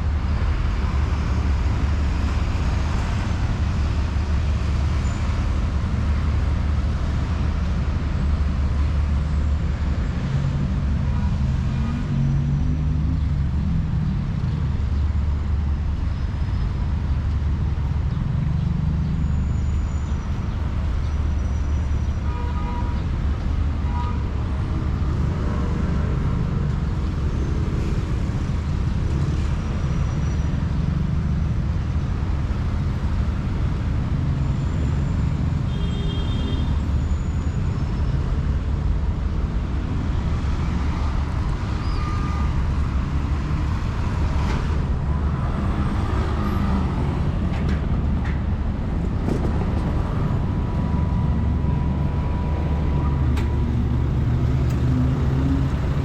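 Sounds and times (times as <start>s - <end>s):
city road traffic rumble: 0.0s - 56.0s.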